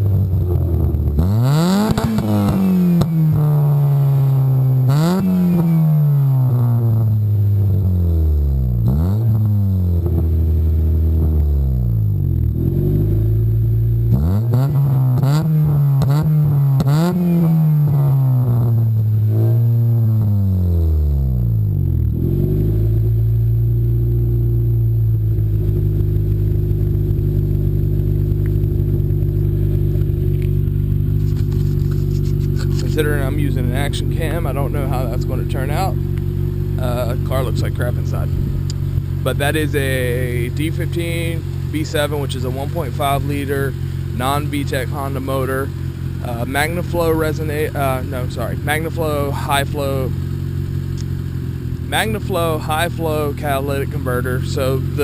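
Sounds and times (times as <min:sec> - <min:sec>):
car engine revving and idling: 0:00.0 - 0:55.0.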